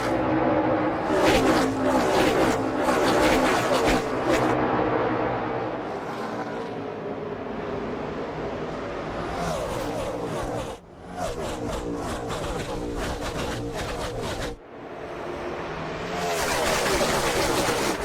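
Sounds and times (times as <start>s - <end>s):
engine with rising pitch: 0.0s - 18.0s
race car engines passing: 0.0s - 18.0s.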